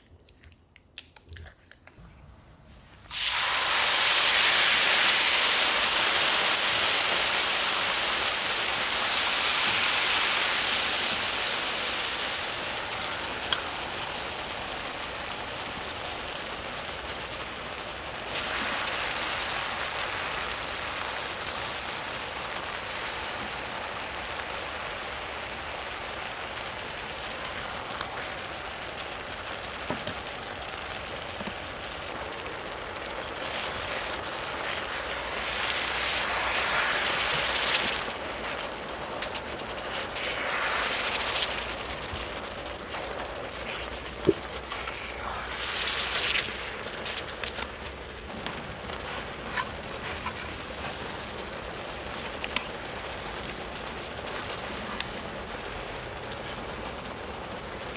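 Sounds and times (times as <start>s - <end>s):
meat sizzling on hot surface: 3.1s - 57.9s.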